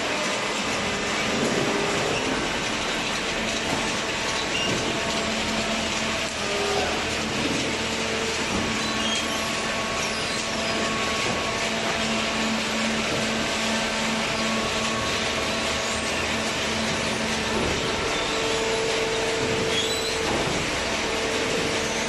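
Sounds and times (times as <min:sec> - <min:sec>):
paper baler machine running: 0:00.0 - 0:22.0.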